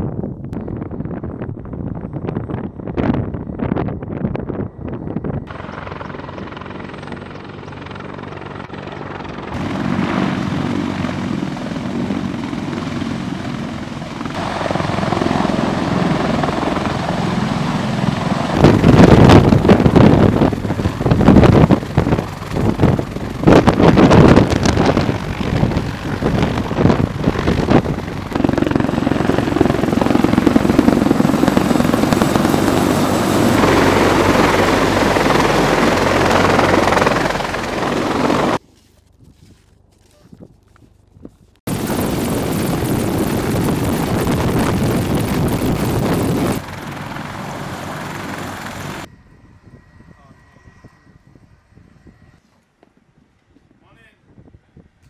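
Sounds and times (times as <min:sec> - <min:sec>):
helicopter rotors and engines: 0:00.0 - 0:38.6, 0:41.7 - 0:55.0.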